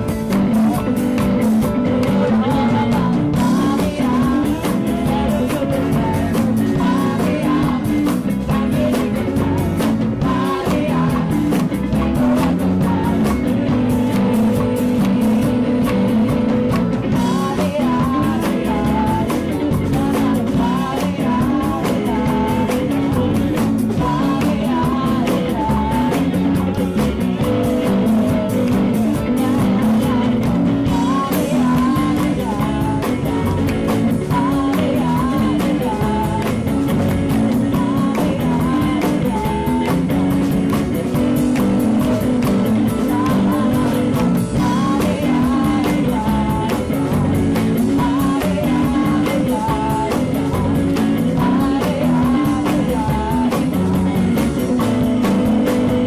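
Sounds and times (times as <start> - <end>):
drum kit: 0.0 - 56.0
electric bass: 0.0 - 56.0
electric guitar: 0.0 - 56.0
keyboard: 0.0 - 56.0
woman singing lead: 0.0 - 56.0.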